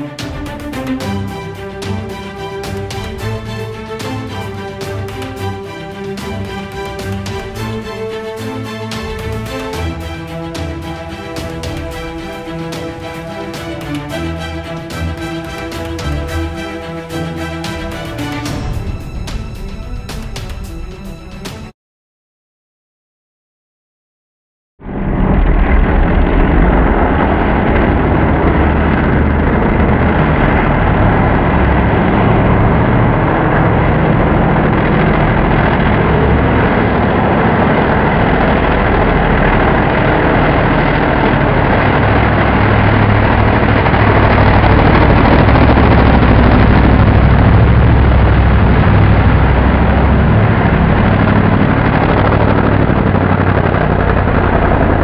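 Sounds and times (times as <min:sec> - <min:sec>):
truck engine running loudly: 0:00.0 - 0:21.2, 0:26.3 - 0:55.0.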